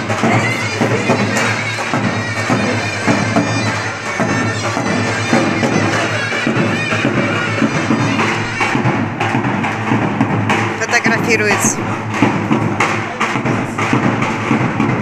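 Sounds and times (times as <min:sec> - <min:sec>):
shrill reedy wind instrument melody: 0:00.0 - 0:12.5
drum beats: 0:00.0 - 0:15.0.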